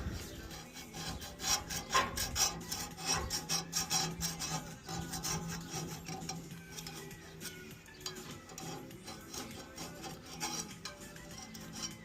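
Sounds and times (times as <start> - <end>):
scraper rasping paint off metal pipe: 0.0 - 12.0.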